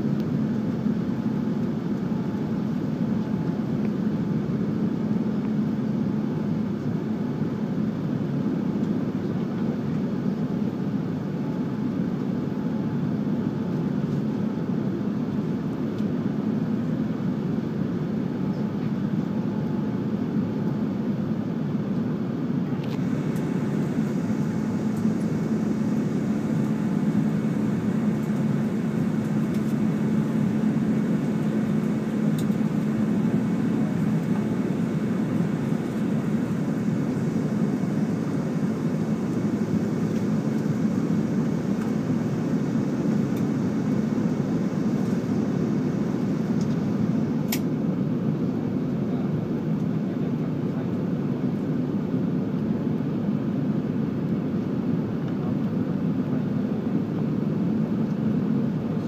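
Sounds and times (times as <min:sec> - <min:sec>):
airplane cabin engine rush: 0:00.0 - 0:59.0.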